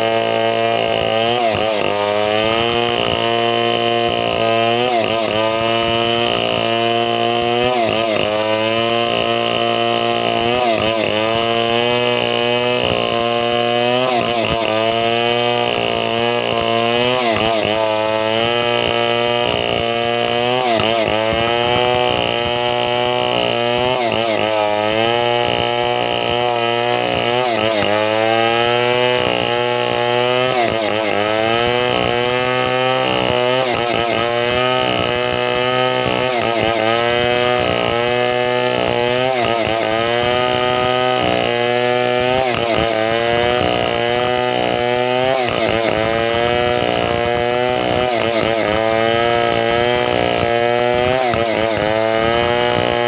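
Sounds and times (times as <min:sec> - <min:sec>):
chainsaw running at high speed: 0:00.0 - 0:53.0.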